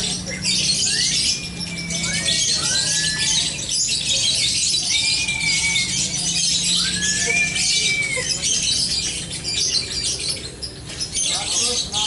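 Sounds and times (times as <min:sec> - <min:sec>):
birds chattering and trilling: 0:00.0 - 0:12.0.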